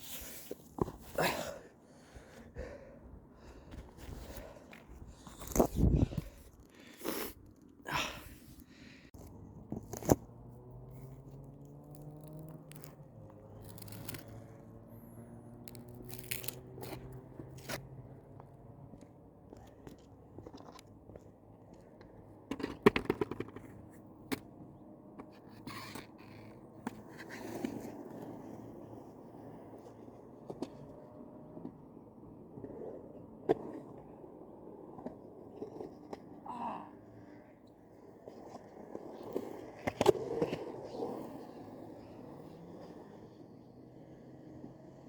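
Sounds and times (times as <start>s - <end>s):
skateboard clicks and scrapes: 0.0s - 1.7s, 2.4s - 45.0s
skateboard wheels humming: 0.0s - 45.0s.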